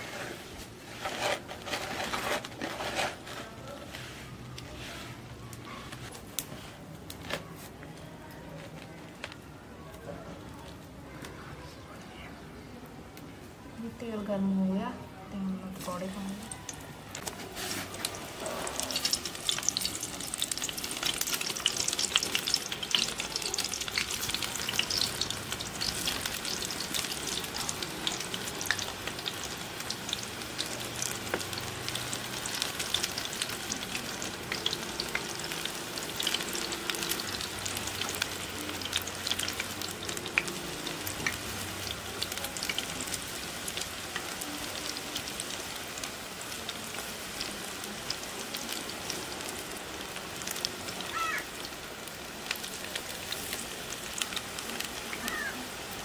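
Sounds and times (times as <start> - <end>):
food deep-frying in oil: 0.0 - 11.0, 15.6 - 56.0.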